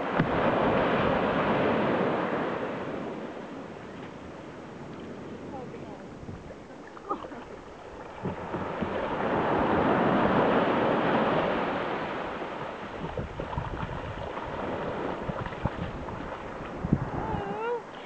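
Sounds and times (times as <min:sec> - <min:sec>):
small wave washing up sand: 0:00.0 - 0:06.1, 0:07.7 - 0:18.0.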